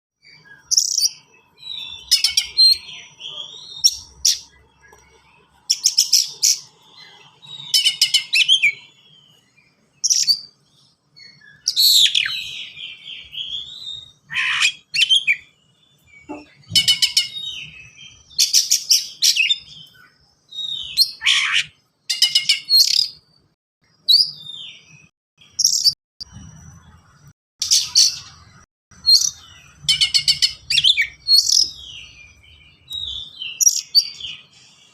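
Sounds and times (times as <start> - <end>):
magpie-robin singing: 0.2 - 23.2, 24.0 - 26.0, 27.6 - 34.9.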